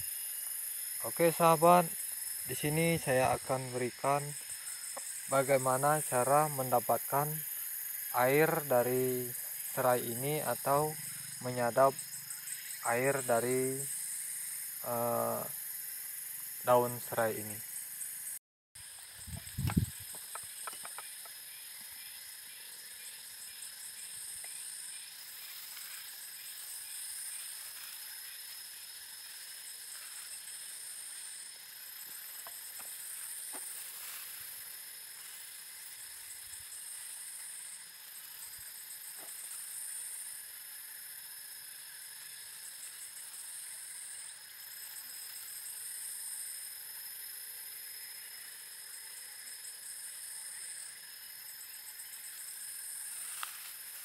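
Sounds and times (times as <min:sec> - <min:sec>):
high-pitched hiss: 0:00.0 - 0:54.0.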